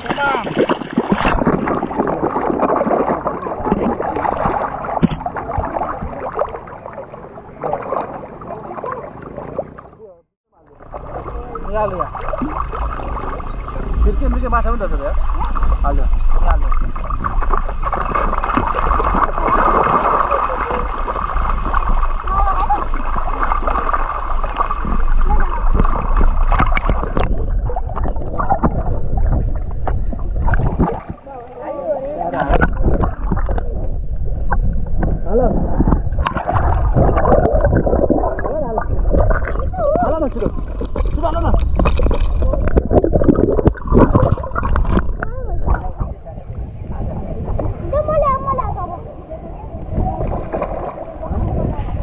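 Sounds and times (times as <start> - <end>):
fish splashing in shallow water: 0.0 - 10.0, 10.7 - 46.4, 49.8 - 52.0
steady low rumble: 8.2 - 52.0.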